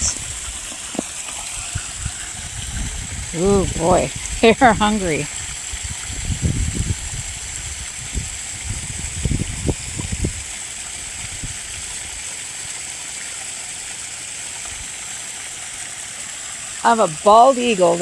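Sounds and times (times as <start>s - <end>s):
water running into pond: 0.0s - 18.0s.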